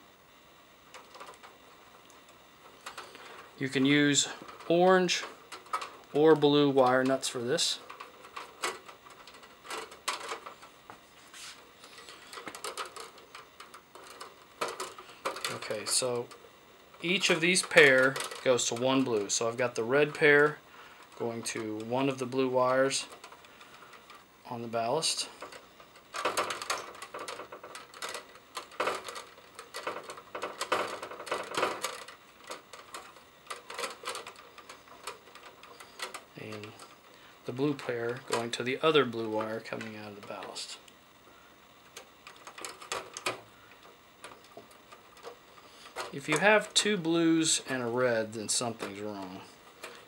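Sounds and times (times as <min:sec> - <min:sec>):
wires rustling: 0:00.0 - 0:50.0.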